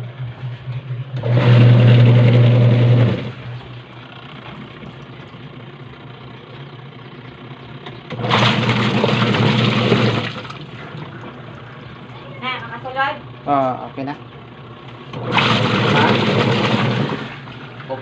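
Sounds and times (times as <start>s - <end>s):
low hum: 0.0s - 18.0s
washing machine agitator running: 0.0s - 18.0s.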